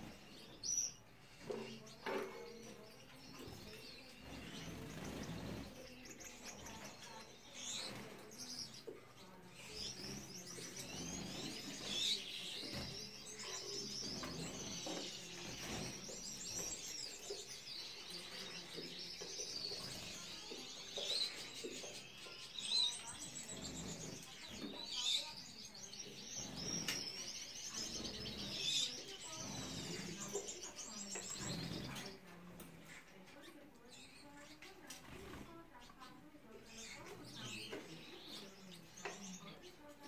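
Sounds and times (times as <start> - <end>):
finches chirping and twittering: 0.0 - 40.0.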